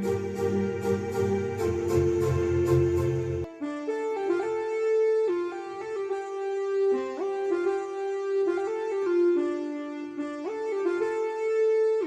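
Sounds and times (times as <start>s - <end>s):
electronic keyboard melody: 0.0s - 12.0s.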